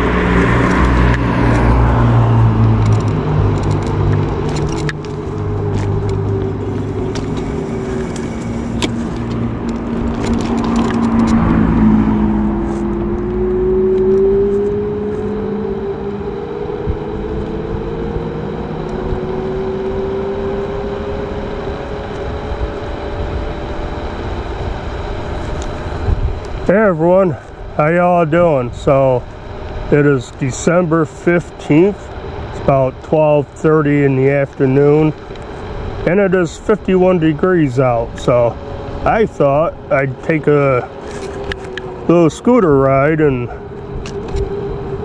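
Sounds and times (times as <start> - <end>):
low vehicle hum: 0.0 - 45.0
road and wind noise: 0.0 - 45.0
scooter motor whine: 0.0 - 45.0.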